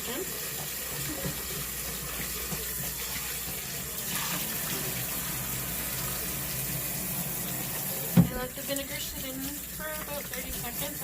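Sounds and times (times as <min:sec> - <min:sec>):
tap running into sink: 0:00.4 - 0:11.0.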